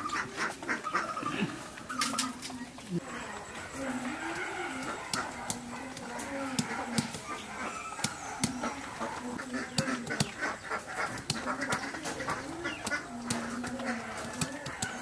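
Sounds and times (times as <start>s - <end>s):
birds and farmyard animals calling: 0.0s - 15.0s.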